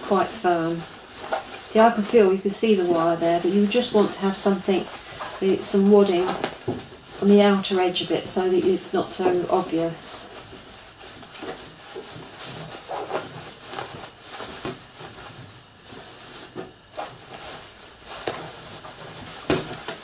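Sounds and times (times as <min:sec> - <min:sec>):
fabric and stuffing rustling: 0:00.0 - 0:20.0.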